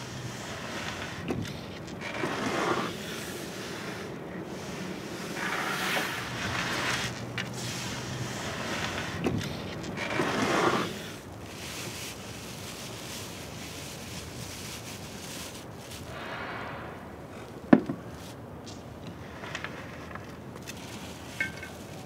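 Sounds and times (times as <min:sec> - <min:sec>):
soft handling of clay and cloth: 0:00.0 - 0:16.2, 0:17.2 - 0:22.0.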